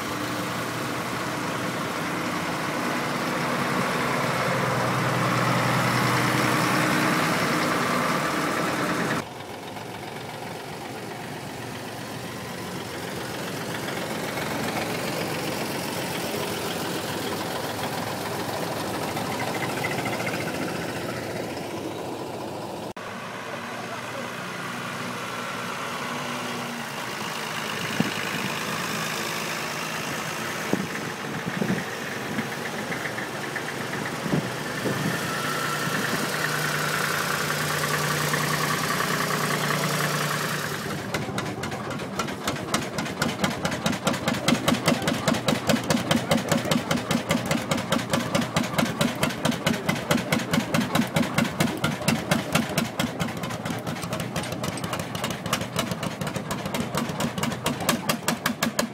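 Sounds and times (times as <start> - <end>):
engine knocks: 0.0 - 22.6, 26.9 - 58.9
engine idling with exhaust thumps: 0.0 - 58.9.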